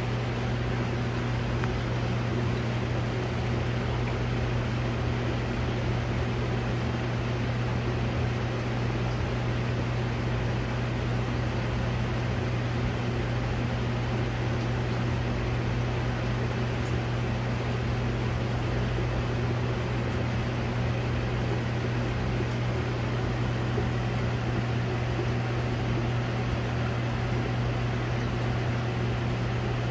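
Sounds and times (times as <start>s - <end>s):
low mains hum of pumps: 0.0s - 29.9s.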